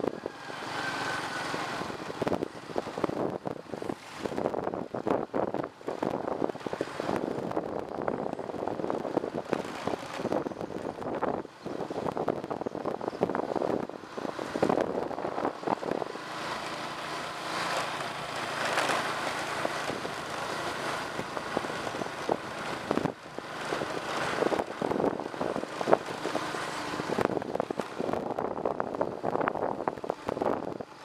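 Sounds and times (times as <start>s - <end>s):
wind buffeting microphone: 0.0s - 31.0s
bike rattling and knocking: 0.9s - 31.0s.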